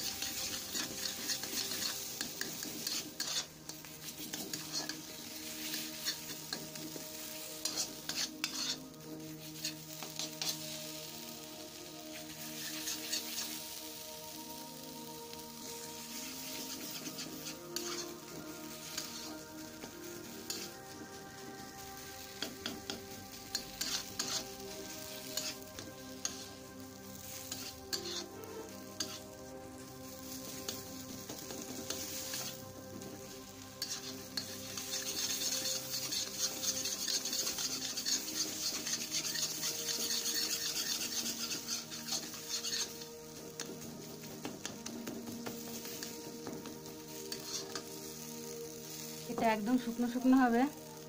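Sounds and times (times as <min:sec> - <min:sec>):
spatula scraping a wok: 0:00.0 - 0:50.1
paste sizzling in oil: 0:00.0 - 0:51.0.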